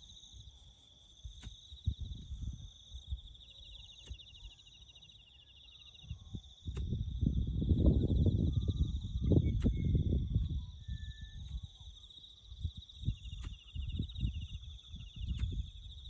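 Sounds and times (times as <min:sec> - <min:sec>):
crickets chirping: 0:00.0 - 0:16.0
lower cricket trill: 0:00.0 - 0:16.0.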